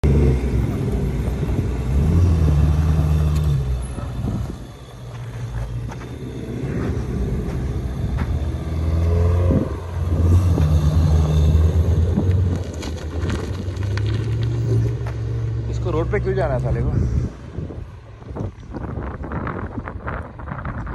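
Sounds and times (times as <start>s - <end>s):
car engine humming: 0.0s - 20.2s.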